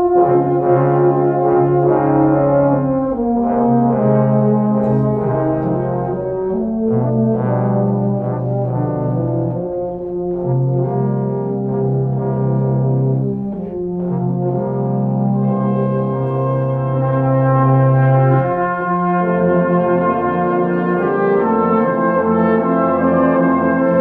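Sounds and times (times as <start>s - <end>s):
brass band playing chords: 0.0s - 24.0s.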